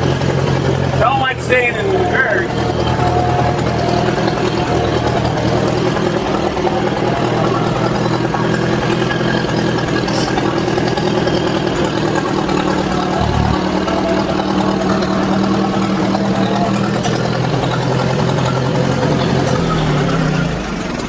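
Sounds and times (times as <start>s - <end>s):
backhoe engine running: 0.0s - 21.0s.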